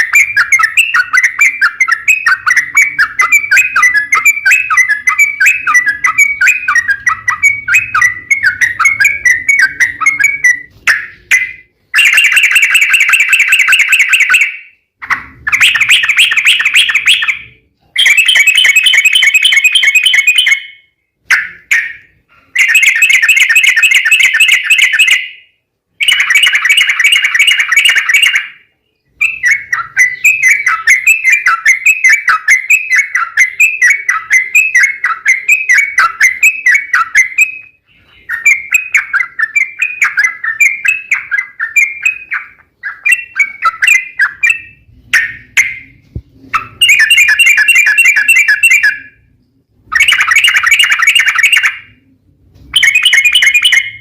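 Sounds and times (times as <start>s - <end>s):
bird warbling and trilling: 0.0s - 54.0s.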